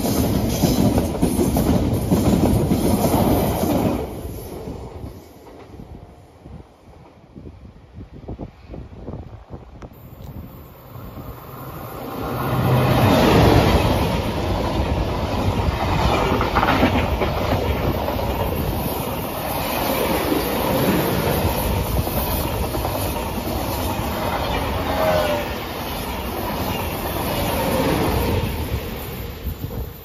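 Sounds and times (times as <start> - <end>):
train running past: 0.0 - 30.0.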